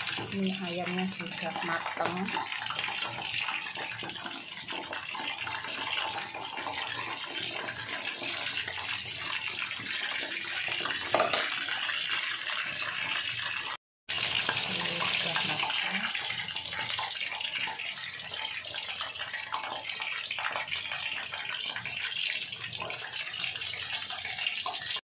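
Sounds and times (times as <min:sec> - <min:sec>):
chicken deep-frying in oil: 0:00.0 - 0:25.0.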